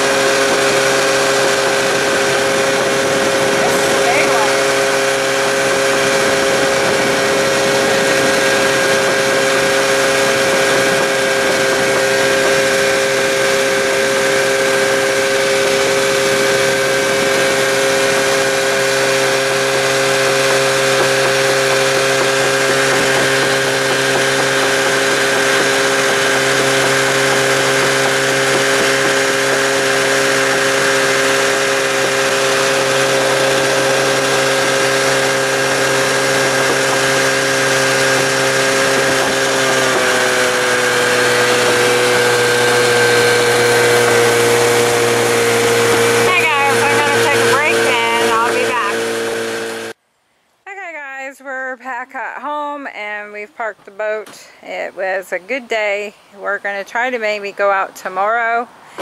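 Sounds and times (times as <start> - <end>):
engine droning steadily: 0.0 - 50.0.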